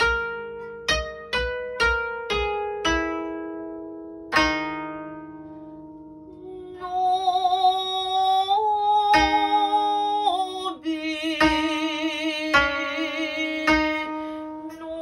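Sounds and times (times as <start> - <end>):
koto string plucked: 0.0 - 15.0.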